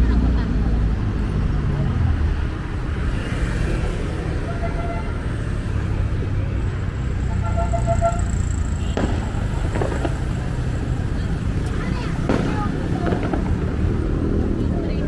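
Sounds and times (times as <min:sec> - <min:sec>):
low rumble of city traffic: 0:00.0 - 0:15.0.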